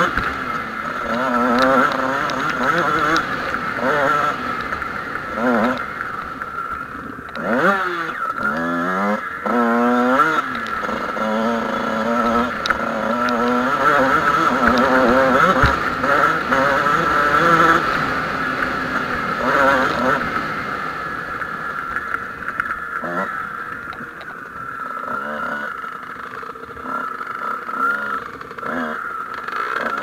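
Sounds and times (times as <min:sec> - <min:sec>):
motocross bike engine accelerating: 0:00.0 - 0:30.0.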